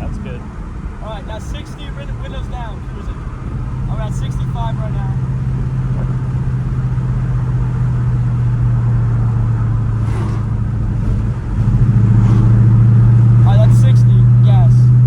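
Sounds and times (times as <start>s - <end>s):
car exhaust droning in cabin: 0.0s - 15.0s.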